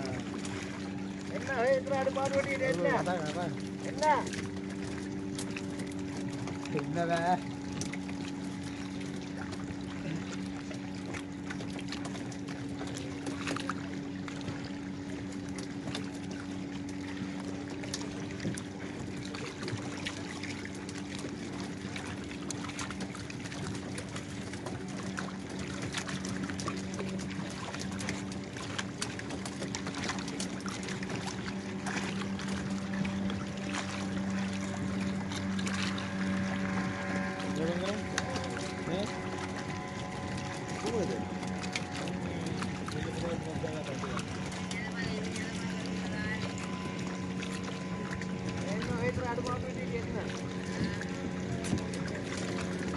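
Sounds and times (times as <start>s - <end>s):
boat engines humming: 0.0s - 52.9s
water lapping against hulls: 0.0s - 52.9s.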